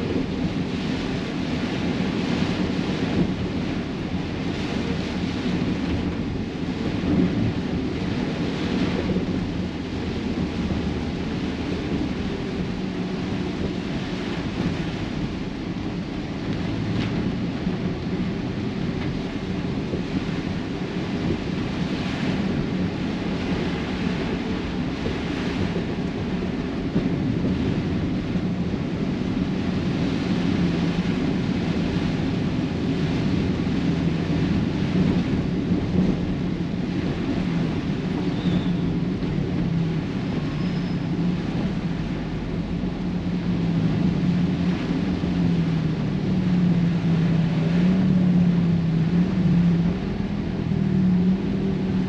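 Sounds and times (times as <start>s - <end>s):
low engine hum: 0.0s - 52.0s
rain and road noise: 0.0s - 52.0s.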